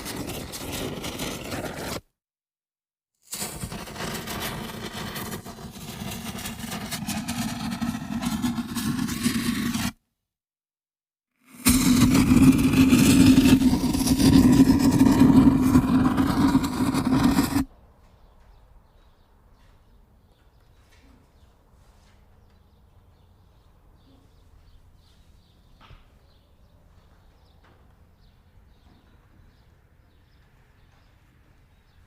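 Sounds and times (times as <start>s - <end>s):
outdoor ambience: 0.0s - 2.0s, 3.2s - 10.0s, 11.4s - 32.0s.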